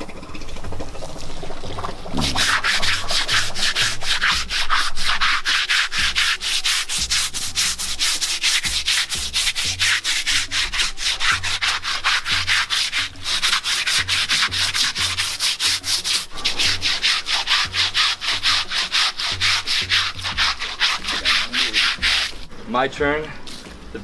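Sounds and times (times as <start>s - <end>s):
brush scrubbing rough hide: 2.2s - 22.5s.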